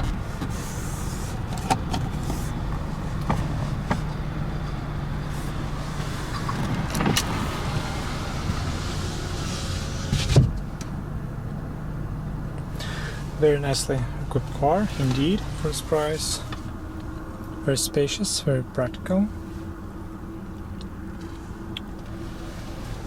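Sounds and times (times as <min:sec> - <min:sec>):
low cabin hum: 0:00.0 - 0:23.0.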